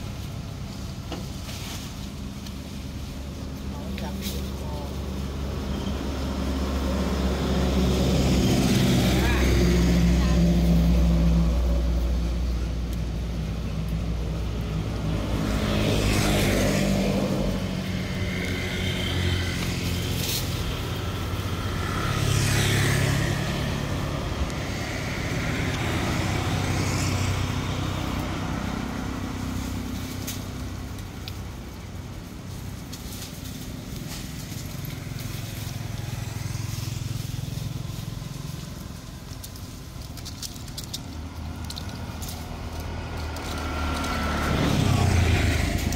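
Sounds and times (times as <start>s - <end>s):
vehicle engines humming: 0.0s - 45.9s
vehicle passing: 0.0s - 45.9s.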